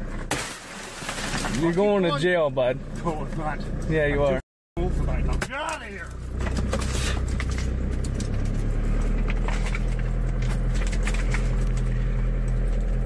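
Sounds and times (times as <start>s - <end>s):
car engine running: 0.0s - 13.0s
road noise inside car: 0.0s - 13.0s.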